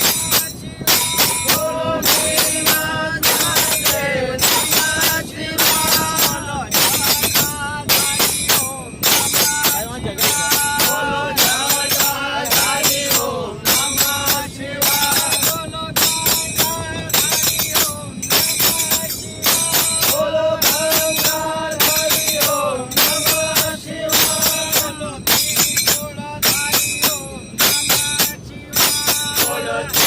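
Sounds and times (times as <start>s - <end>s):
jingling hand percussion: 0.0s - 30.0s.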